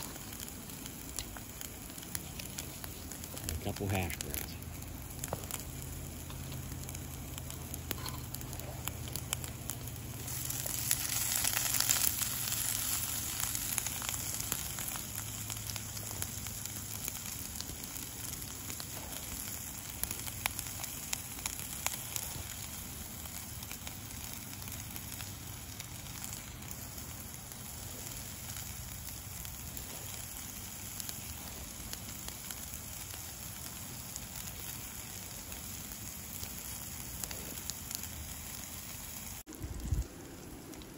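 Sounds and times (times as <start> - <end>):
vegetables sizzling in a pan: 0.0 - 40.0
campfire crackling and popping: 0.0 - 40.9.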